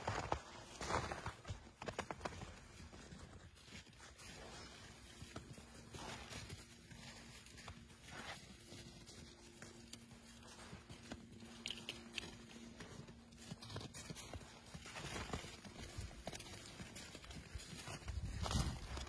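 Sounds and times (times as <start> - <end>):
paws crunching in snow: 0.0 - 19.0
faint steady hum: 2.3 - 19.0.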